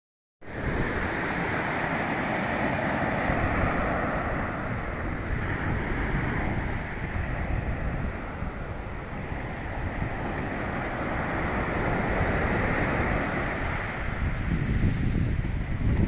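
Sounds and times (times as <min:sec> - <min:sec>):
wind rumbling on microphone: 0:00.4 - 0:16.0
waves washing up a beach: 0:00.5 - 0:16.0.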